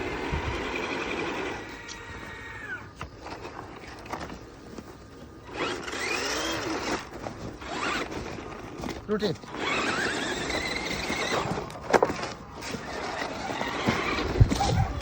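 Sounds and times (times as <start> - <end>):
electric toy car motor whining: 0.0 - 4.4, 5.4 - 15.0.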